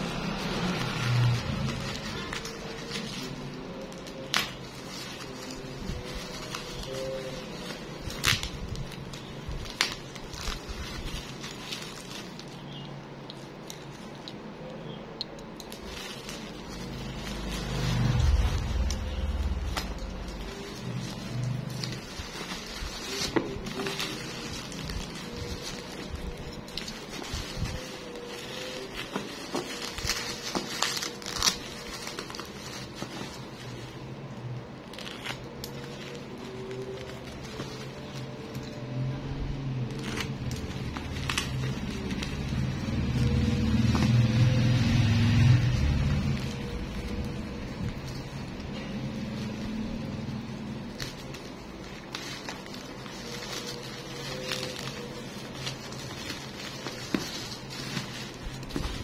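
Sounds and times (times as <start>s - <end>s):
bubble wrap crinkling and crackling: 0.0s - 59.0s.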